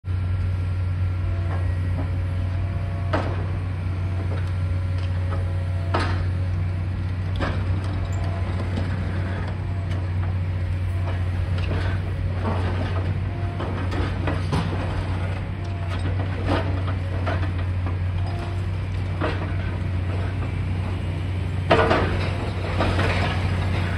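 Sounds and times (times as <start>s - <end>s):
excavator engine drone: 0.1s - 23.9s.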